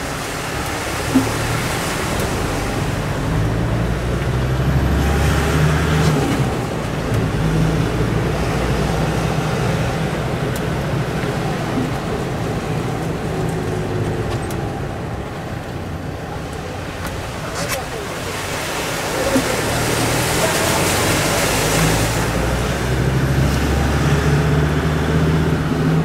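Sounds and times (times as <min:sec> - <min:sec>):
tyres hissing on wet road: 0:00.0 - 0:26.0.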